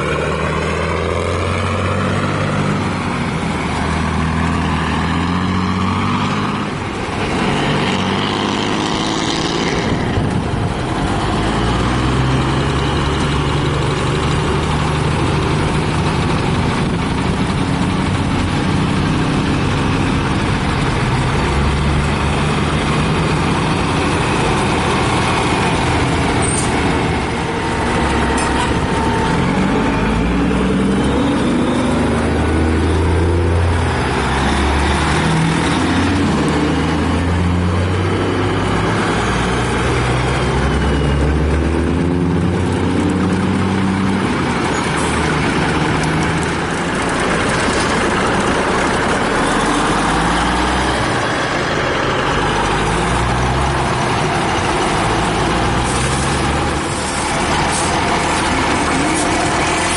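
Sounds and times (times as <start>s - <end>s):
heavy truck engines driving past: 0.0s - 59.9s.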